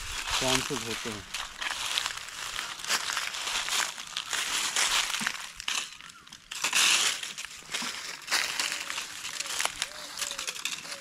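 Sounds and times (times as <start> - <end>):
dry leaves crunching and rustling: 0.0 - 11.0.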